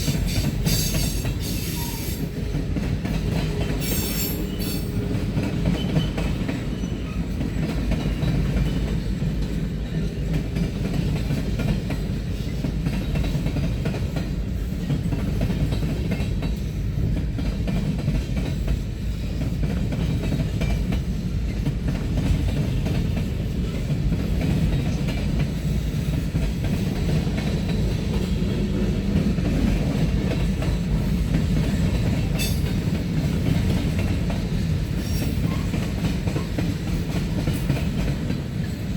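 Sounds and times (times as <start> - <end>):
freight train wheels rumbling on rail: 0.0 - 38.9.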